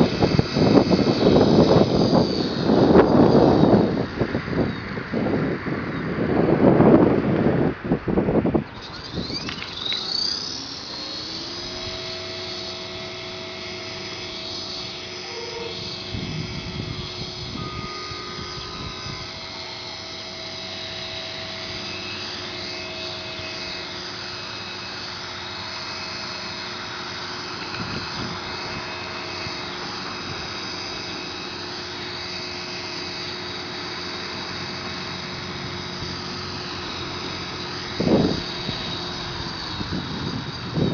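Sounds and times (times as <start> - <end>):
model helicopter motor whine: 0.0 - 40.9.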